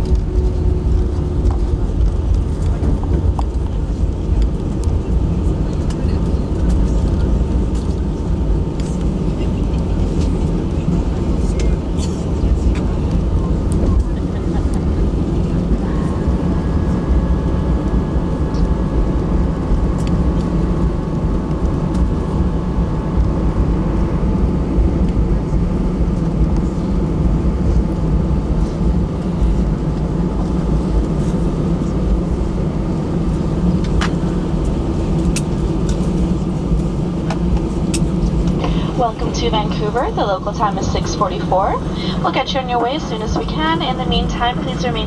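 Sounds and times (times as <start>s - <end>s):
jet engine whine: 0.0s - 45.0s
jet rolling on ground rumble: 0.0s - 45.0s.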